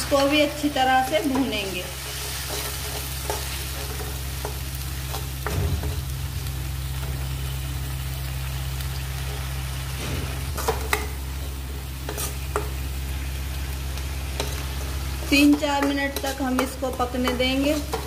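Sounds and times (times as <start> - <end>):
paste sizzling in oil: 0.0 - 18.0
steady low hum: 0.1 - 18.0.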